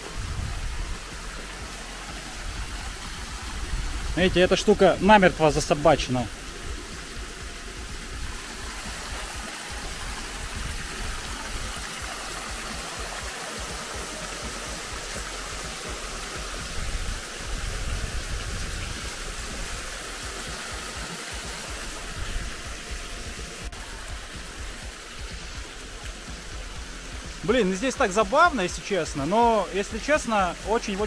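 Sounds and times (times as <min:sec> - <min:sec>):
water rushing over dam: 0:00.0 - 0:31.0.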